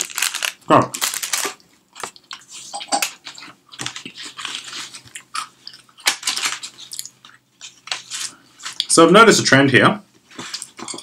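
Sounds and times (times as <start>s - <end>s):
person chewing crunchy biscuit: 0.0s - 8.9s.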